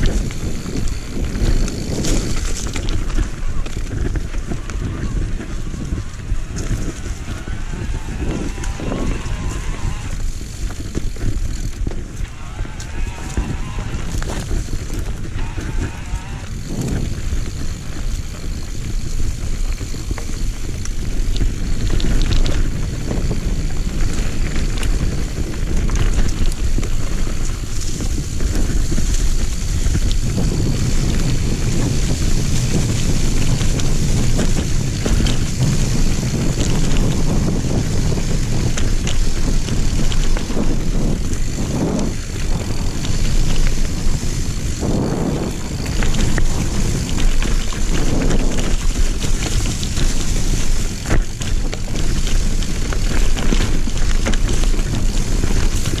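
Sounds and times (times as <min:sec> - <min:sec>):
bike clattering over bumps: 0:00.0 - 0:56.0
tyres rolling over dirt and leaves: 0:00.0 - 0:56.0
wind rushing over microphone: 0:00.0 - 0:56.0.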